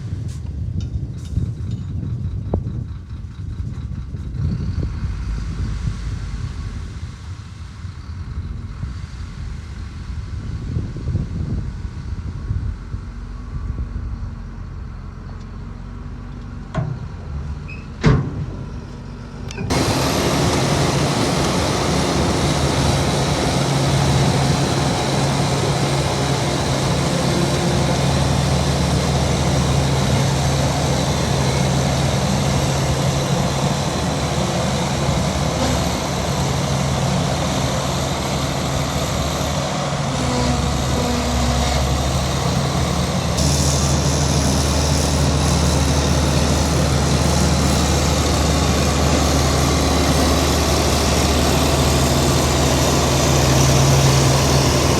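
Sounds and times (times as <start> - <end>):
heavy diesel engine droning: 0.0 - 54.9.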